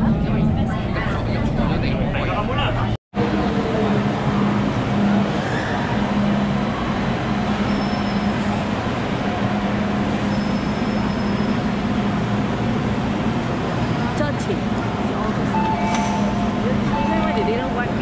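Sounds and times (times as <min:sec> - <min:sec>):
train rumble with low hum: 0:00.0 - 0:18.0.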